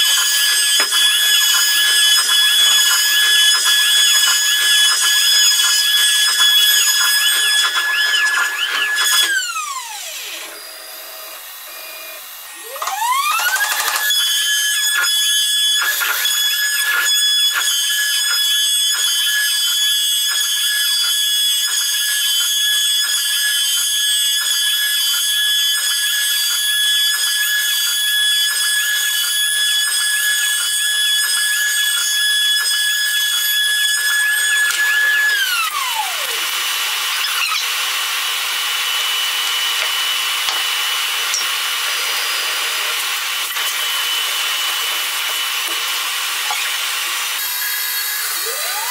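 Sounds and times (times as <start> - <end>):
router spindle whining: 0.0 - 48.9.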